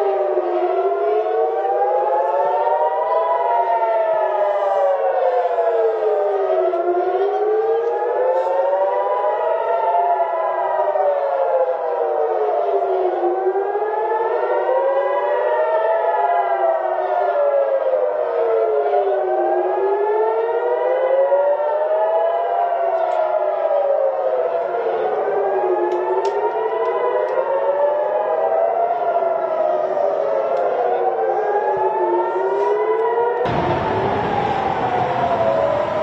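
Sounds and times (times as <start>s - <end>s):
air-raid sirens wailing: 0.0s - 36.0s.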